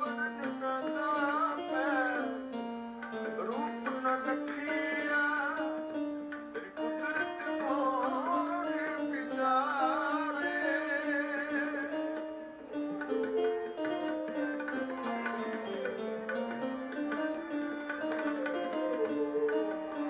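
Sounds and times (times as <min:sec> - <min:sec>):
plucked strings: 0:00.0 - 0:20.0
tabla: 0:00.0 - 0:20.0
wavering melody: 0:00.0 - 0:20.0.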